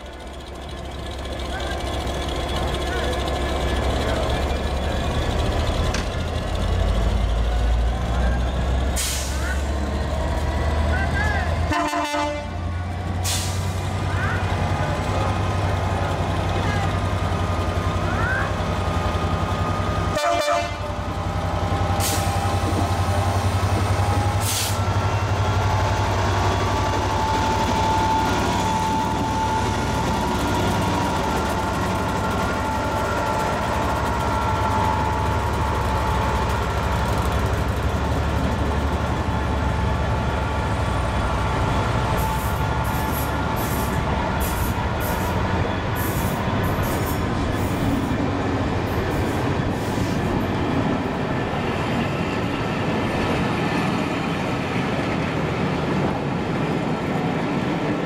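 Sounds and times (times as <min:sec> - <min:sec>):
diesel train engine drone: 0:00.0 - 0:58.0.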